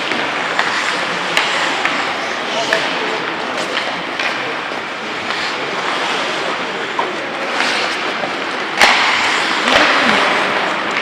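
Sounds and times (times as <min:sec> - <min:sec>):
sharp crack of stick or puck: 0:00.0 - 0:11.0
skates scraping on ice: 0:00.0 - 0:11.0.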